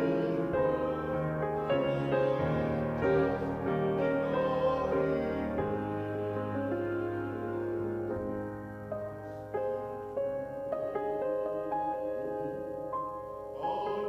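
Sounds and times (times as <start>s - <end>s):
slow keyboard music: 0.0s - 14.0s.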